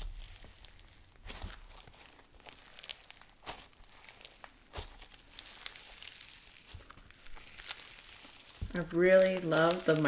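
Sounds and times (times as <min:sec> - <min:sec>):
slime crunchy crackles and pops: 0:00.0 - 0:10.0.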